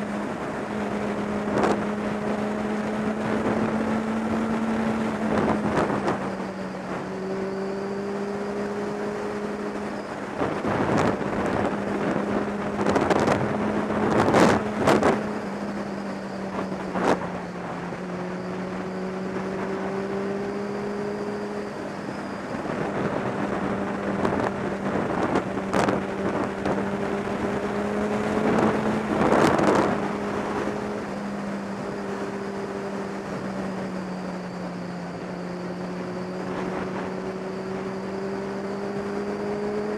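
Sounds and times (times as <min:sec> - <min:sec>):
wind gusts hitting microphone: 0:00.0 - 0:35.0
motorcycle engine cruising: 0:00.0 - 0:39.9
wind noise: 0:00.0 - 0:39.9.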